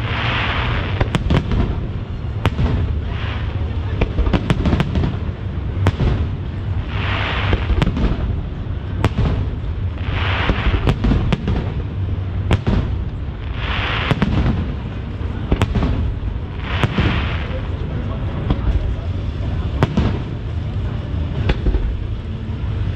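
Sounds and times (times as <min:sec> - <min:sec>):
fireworks bangs: 0:00.0 - 0:22.2
steady low rumble: 0:00.0 - 0:22.9.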